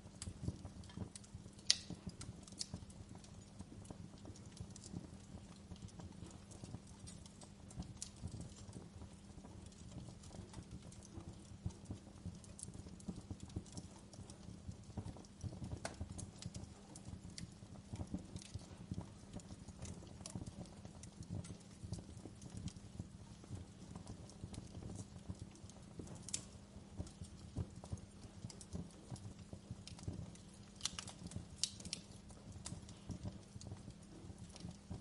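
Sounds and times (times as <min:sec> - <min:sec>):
low rumble of flames: 0:00.0 - 0:35.0
wood fire crackling: 0:00.0 - 0:35.0.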